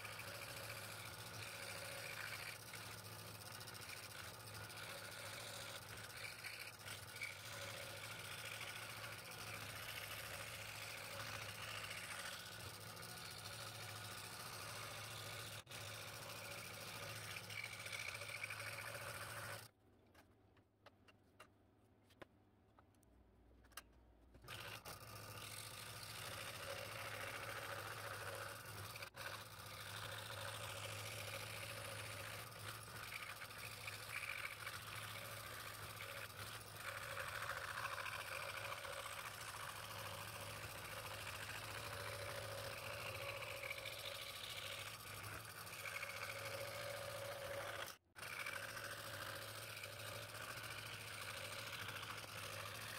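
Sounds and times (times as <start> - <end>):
scroll saw cutting wood: 0.0 - 19.7, 24.4 - 52.9.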